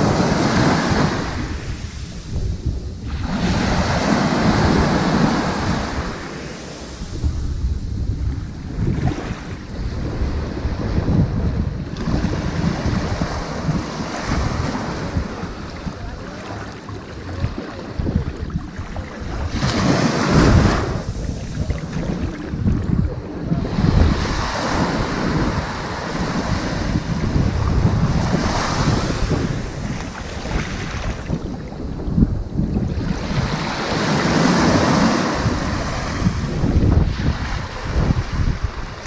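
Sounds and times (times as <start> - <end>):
ocean surf on sandy beach: 0.0 - 39.0.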